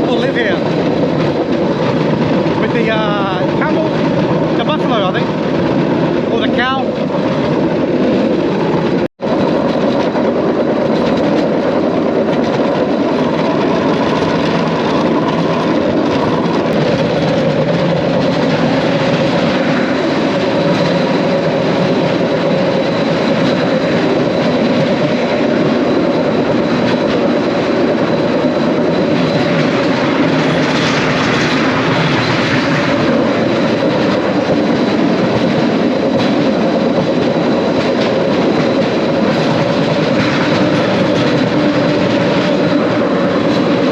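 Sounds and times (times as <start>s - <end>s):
rail trolley running on track: 0.0s - 43.9s.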